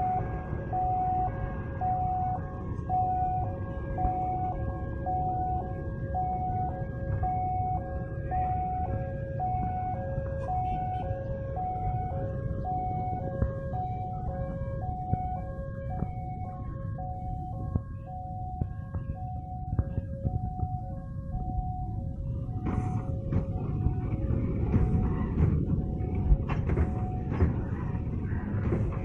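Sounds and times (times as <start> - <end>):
two-tone level-crossing alarm: 0.0 - 28.2
low rumble: 0.0 - 29.0.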